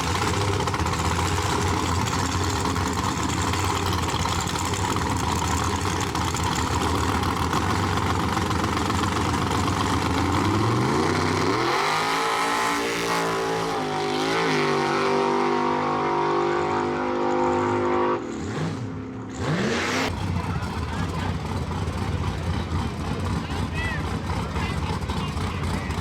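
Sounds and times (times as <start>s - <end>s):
drag racing car engine revving: 0.0s - 26.0s.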